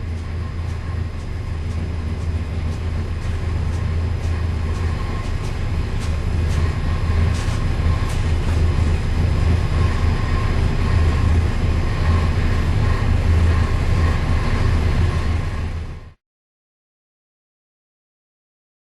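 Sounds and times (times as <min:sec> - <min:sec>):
race engine running loud: 0:00.0 - 0:16.2.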